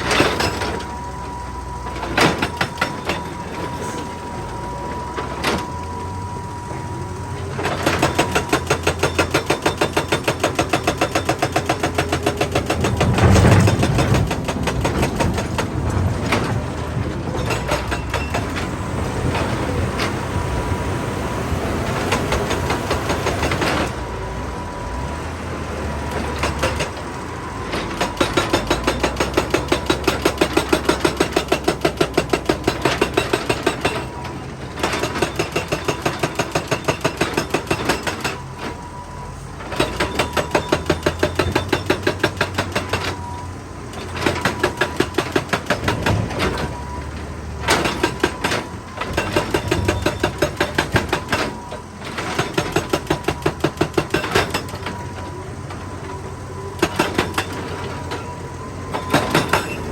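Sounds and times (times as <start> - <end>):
hydraulic rock breaker hammering rock: 0.0 - 25.2, 25.8 - 59.9
diesel engine running: 0.0 - 59.9.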